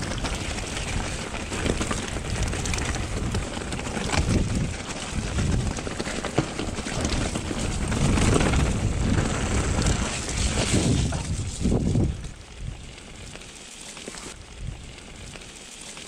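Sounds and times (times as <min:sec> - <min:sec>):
wind buffeting microphone: 0:00.0 - 0:13.4, 0:14.4 - 0:15.4
mountain bike rumble and rattle: 0:00.0 - 0:16.0.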